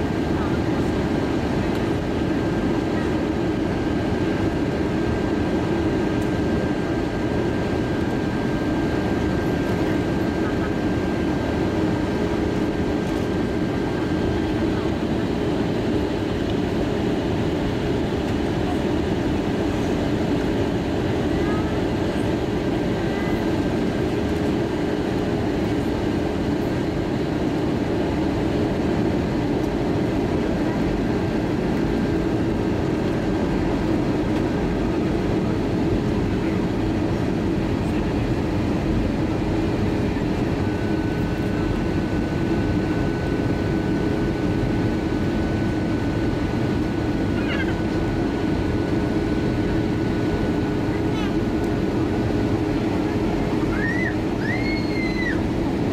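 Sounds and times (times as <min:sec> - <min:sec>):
constant hum: 0:00.0 - 0:55.9
jet engine drone: 0:00.0 - 0:55.9.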